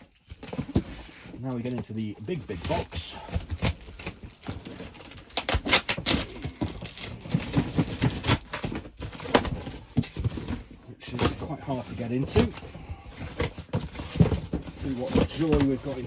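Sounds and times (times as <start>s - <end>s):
cardboard and packing tape crackling: 0.0s - 16.0s.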